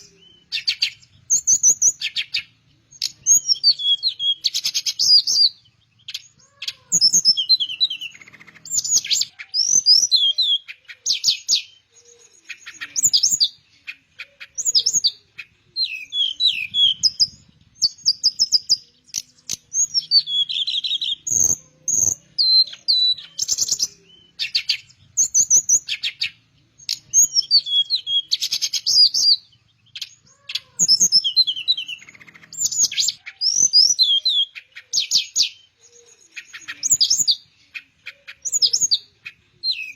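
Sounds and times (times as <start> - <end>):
songbird singing chirps and trills: 0.0 - 39.9.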